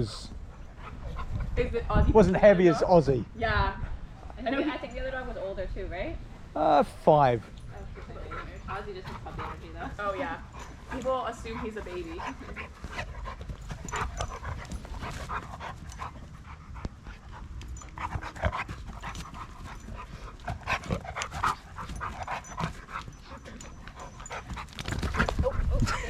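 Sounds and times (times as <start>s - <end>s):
dogs panting hard: 0.0s - 3.1s, 7.4s - 26.0s.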